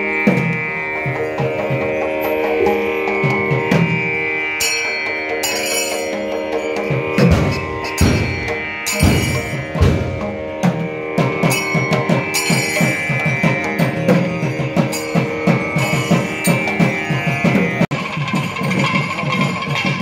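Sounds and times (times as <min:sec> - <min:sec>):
held wind instrument tone: 0:00.0 - 0:17.9.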